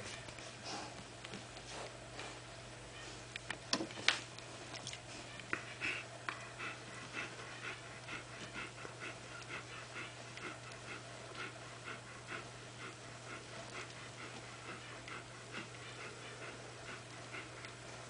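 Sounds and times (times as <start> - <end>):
dog panting: 0.0 - 2.5, 5.0 - 18.0.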